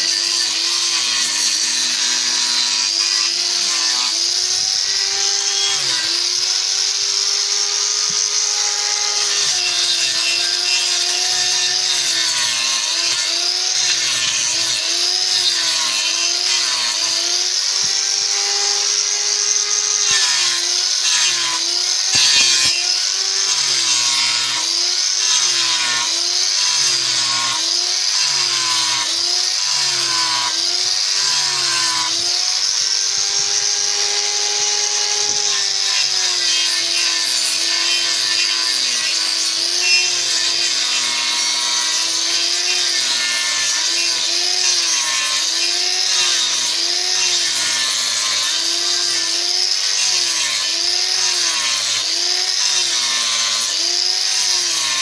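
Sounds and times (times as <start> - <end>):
power tool cutting wood: 0.0 - 55.0.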